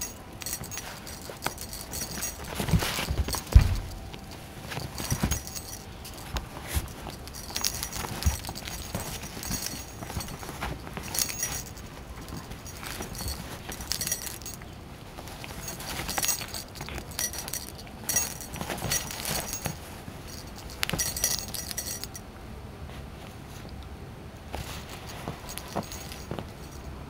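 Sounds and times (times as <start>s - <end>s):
metal collar charm jingling: 0.0s - 22.2s, 24.6s - 26.9s
toy thumping and rustling on cushion: 0.0s - 22.2s, 24.5s - 26.8s.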